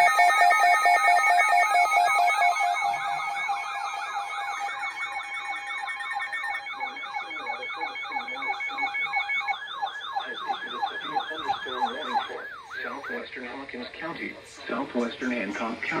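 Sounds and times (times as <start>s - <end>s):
beeping tone: 0.0s - 13.3s
siren warbling: 0.0s - 13.3s
electronic sirens yelping: 0.0s - 13.5s
steady tone: 0.0s - 13.5s.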